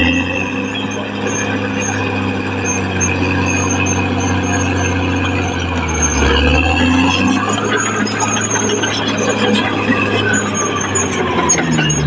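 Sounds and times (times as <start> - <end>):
bulldozer diesel engine running: 0.0 - 12.0
rising high tone: 0.0 - 12.0.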